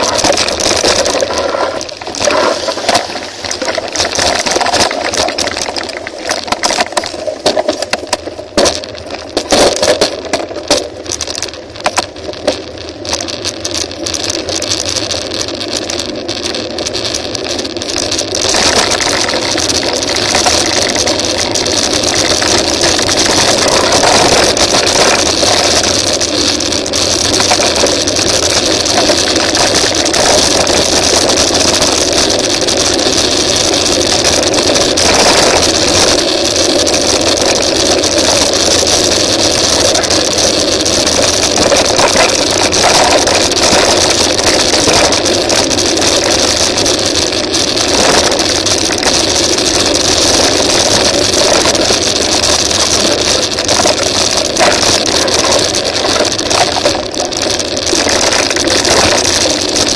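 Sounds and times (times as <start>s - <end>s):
bike rattles and knocks: 0.0s - 59.9s
bike tyre noise on gravel: 0.0s - 59.9s.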